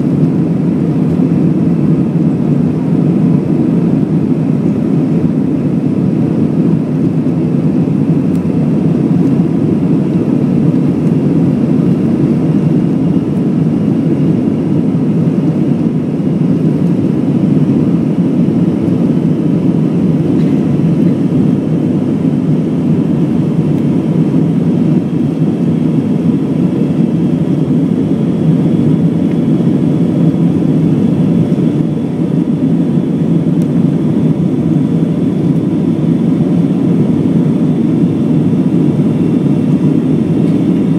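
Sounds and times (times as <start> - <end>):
jet engine and airflow rumble: 0.0 - 40.9.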